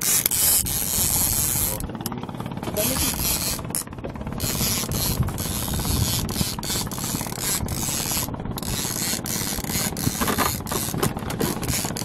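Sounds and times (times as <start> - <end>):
boat engine running: 0.0 - 12.0
wind buffeting microphone: 0.3 - 12.0.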